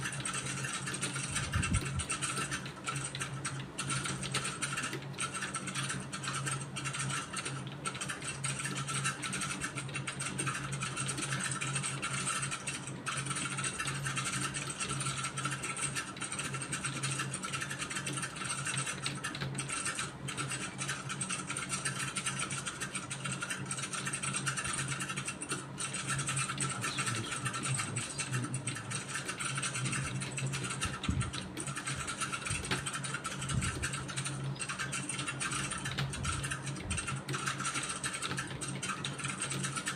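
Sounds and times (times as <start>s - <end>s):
constant low hum: 0.0s - 39.9s
keyboard typing: 0.0s - 39.9s.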